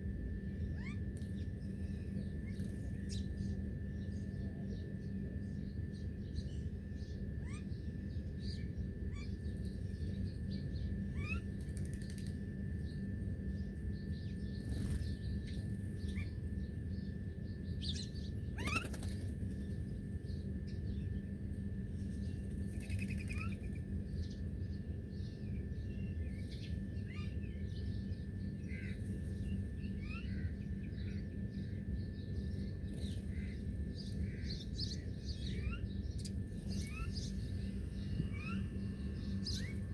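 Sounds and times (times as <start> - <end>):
low background rumble: 0.0 - 39.9
wild birds chirping: 5.9 - 39.9.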